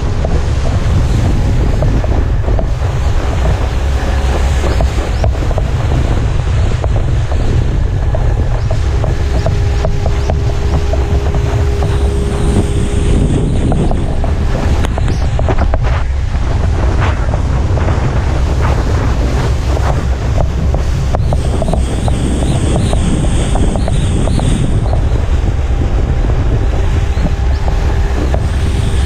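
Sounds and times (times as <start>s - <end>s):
water rushing and wake spray: 0.0s - 29.0s
wind buffeting microphone: 0.0s - 29.0s.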